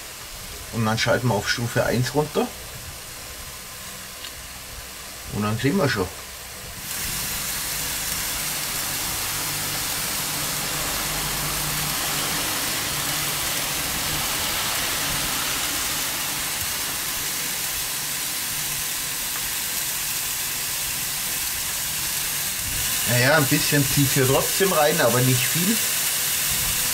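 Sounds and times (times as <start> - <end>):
electric fan rushing hiss: 0.0 - 26.9
meat sizzling on a grill: 0.0 - 26.9.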